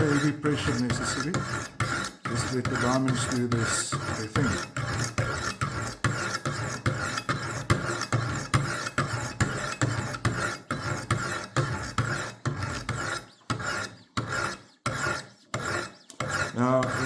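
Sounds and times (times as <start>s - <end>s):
sharpening stones rasping on knife: 0.0s - 17.0s.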